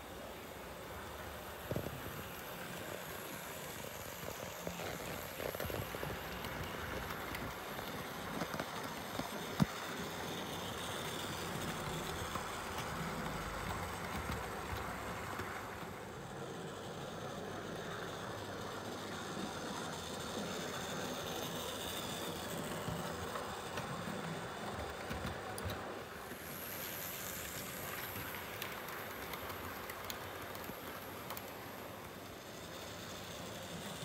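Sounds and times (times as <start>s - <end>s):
model train rolling rumble: 0.0s - 34.0s.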